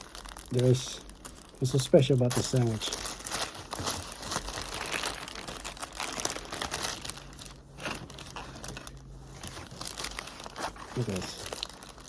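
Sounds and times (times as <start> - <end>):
sandwich wrapper crinkling: 0.0 - 12.0.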